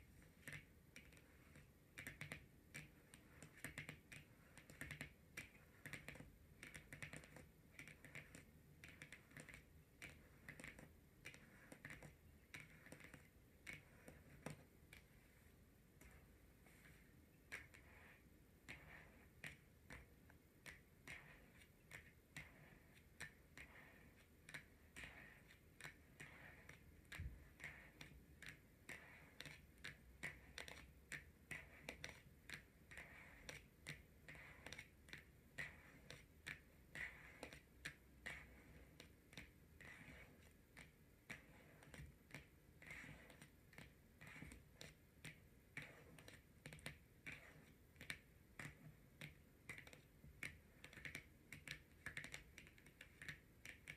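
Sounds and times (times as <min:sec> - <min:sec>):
fingernails tapping on cards: 0:00.2 - 0:53.9.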